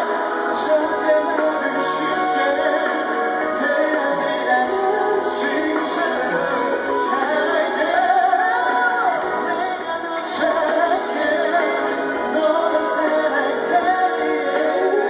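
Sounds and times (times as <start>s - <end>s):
band accompaniment: 0.0s - 15.0s
man singing into microphone: 0.0s - 15.0s.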